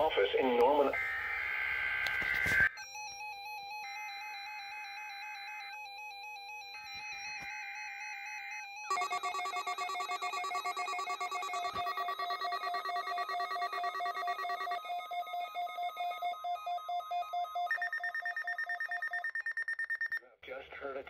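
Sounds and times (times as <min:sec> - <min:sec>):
alert tone: 0:02.4 - 0:20.2
rapid alarm beeps: 0:02.8 - 0:20.2.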